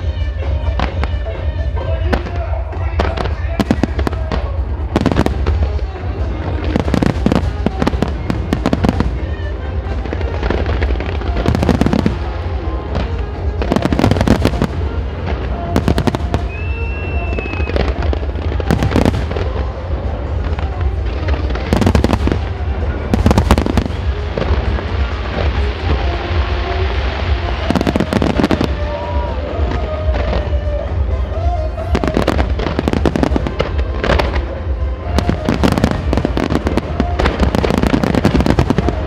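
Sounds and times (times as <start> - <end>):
fireworks bursting: 0.0 - 39.0
fireworks crackling: 0.0 - 39.0.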